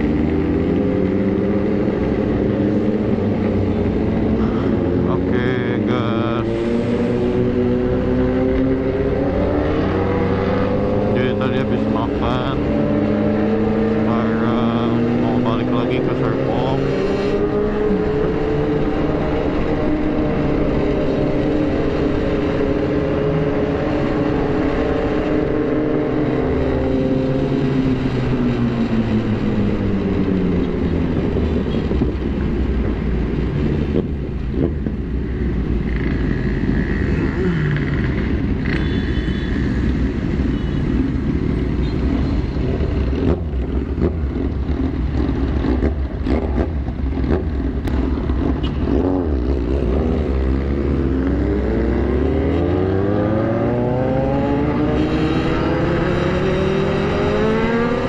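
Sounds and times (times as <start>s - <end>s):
motorcycle engine: 0.0s - 58.0s
road and wind noise: 0.0s - 58.0s.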